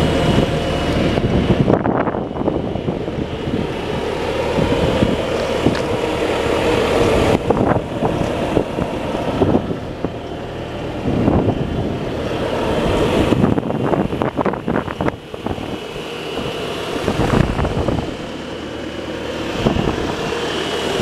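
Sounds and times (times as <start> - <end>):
diesel engine running: 0.0 - 21.0
wind noise on microphone: 0.0 - 21.0.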